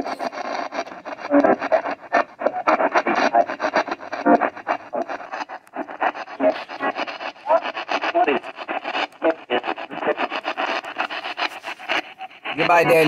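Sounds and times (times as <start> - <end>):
radio sweeping through static: 0.0 - 13.0.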